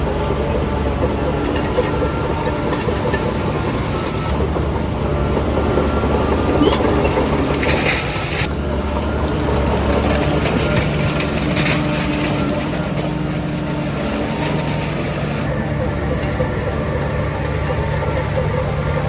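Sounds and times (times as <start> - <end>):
diesel engine under load: 0.0 - 19.0
steel tracks clattering: 0.0 - 19.0.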